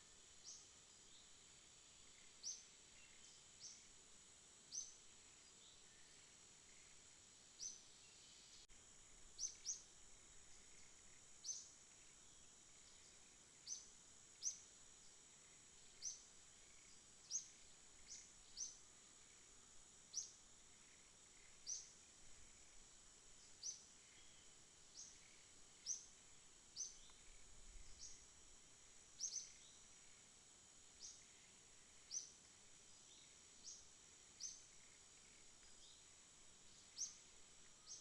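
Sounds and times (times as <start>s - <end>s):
insect chirps: 0.0s - 38.0s
high-pitched insect drone: 4.7s - 36.0s.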